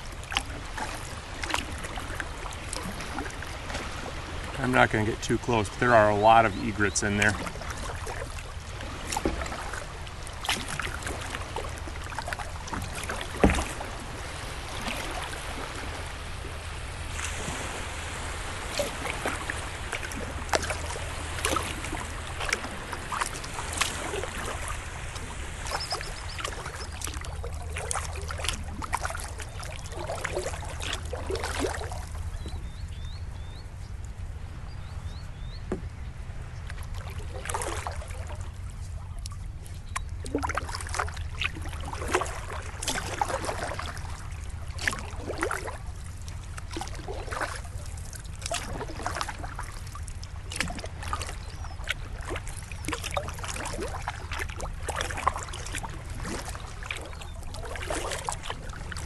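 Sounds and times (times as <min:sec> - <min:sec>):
paddle splashing in water: 0:00.0 - 0:33.7, 0:35.1 - 0:59.0.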